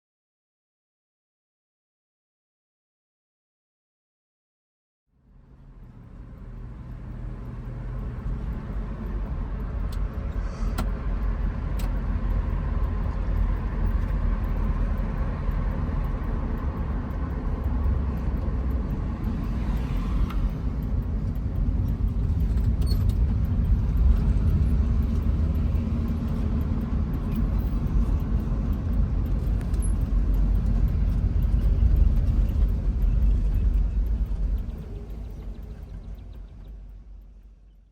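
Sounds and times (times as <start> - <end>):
car engine running: 5.3 - 37.7.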